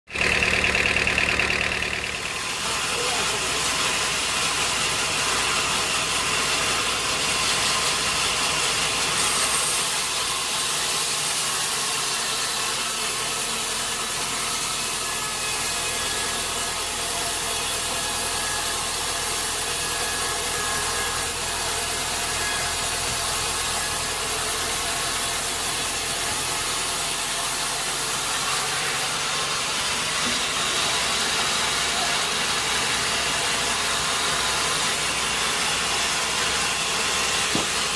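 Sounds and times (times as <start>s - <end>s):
running machinery: 0.1s - 12.4s, 13.1s - 37.9s
saw blade cutting wood: 0.1s - 37.9s.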